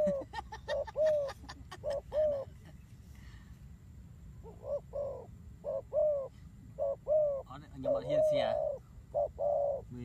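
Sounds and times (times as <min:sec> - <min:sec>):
doves cooing: 0:00.0 - 0:02.8, 0:04.4 - 0:10.0.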